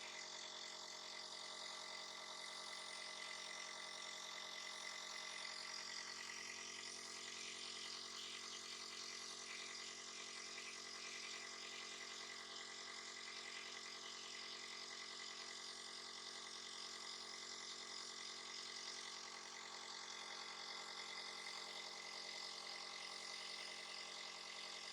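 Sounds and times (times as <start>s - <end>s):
small motor humming: 0.0s - 24.9s.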